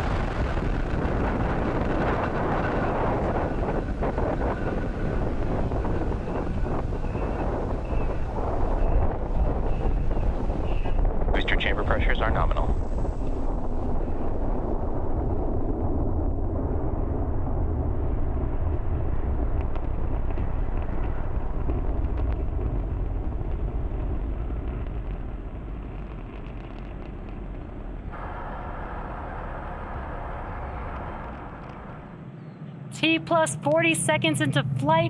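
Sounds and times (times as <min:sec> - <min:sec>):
rocket engines rumbling: 0:00.0 - 0:35.0.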